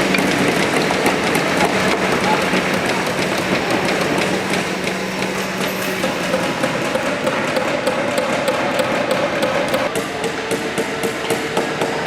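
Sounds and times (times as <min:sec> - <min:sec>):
steady hum: 0:00.0 - 0:09.9.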